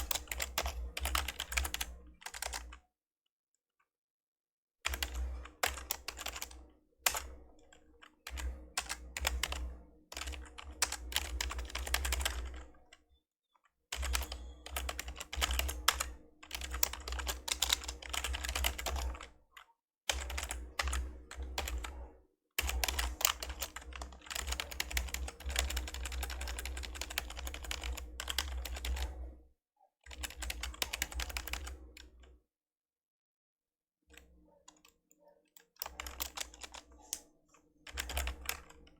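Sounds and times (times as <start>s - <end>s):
typing on keyboard: 0.0s - 2.8s, 4.9s - 13.1s, 13.9s - 22.0s, 22.6s - 29.2s, 30.1s - 32.3s, 34.2s - 38.9s.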